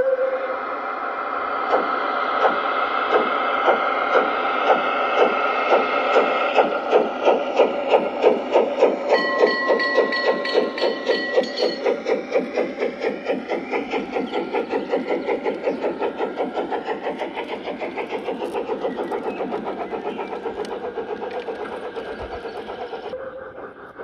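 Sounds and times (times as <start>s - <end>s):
model steam locomotive chuffing: 0.0s - 24.0s
steady whistle-like tone: 0.0s - 24.0s
steam hiss: 0.0s - 24.0s.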